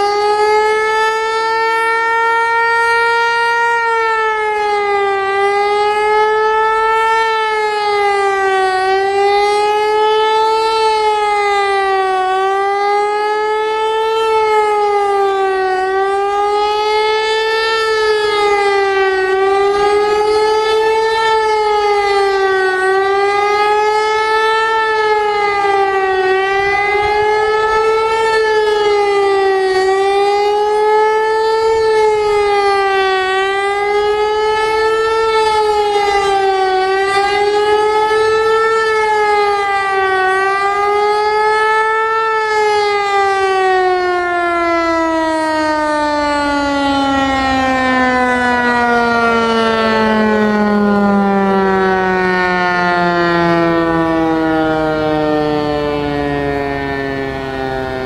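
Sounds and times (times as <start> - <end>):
electronic warning siren wailing: 0.0 - 58.0.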